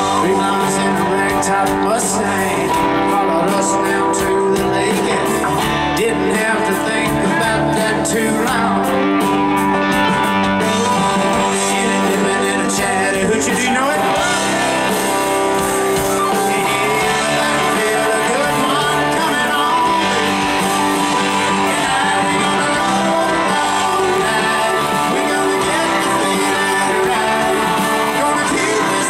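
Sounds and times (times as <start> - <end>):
electric guitars: 0.0 - 29.0
rock band playing live: 0.0 - 29.0.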